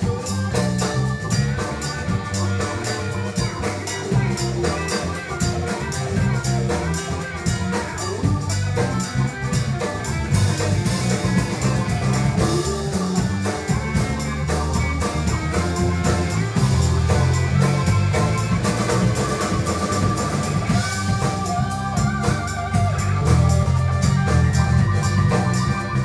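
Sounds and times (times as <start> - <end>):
electric guitar: 0.0 - 26.0
live band playing instrumental: 0.0 - 26.0.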